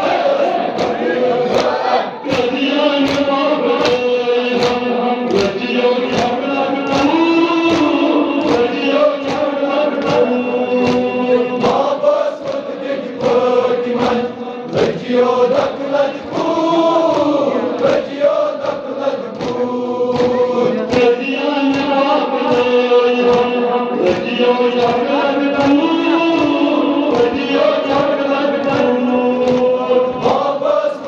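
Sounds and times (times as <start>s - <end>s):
men chanting in unison: 0.0s - 31.0s
chest-beating slaps: 0.6s - 30.6s.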